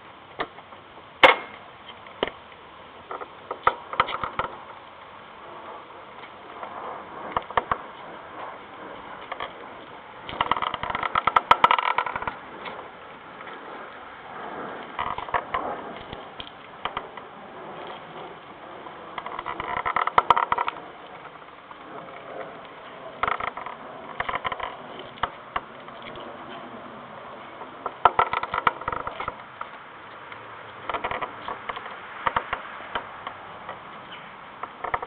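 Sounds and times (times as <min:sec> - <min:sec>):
scooter wheel squeaking and grinding: 0:00.0 - 0:35.0.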